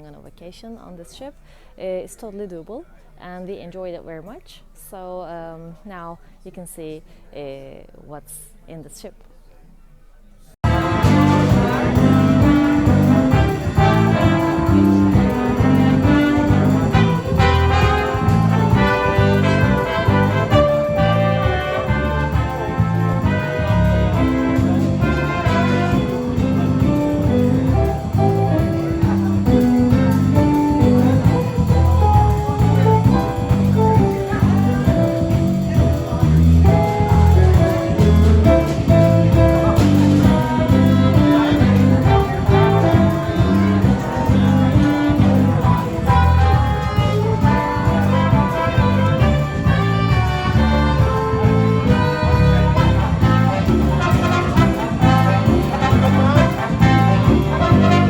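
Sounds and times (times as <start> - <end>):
upbeat brass instrumental music: 10.6 - 58.0.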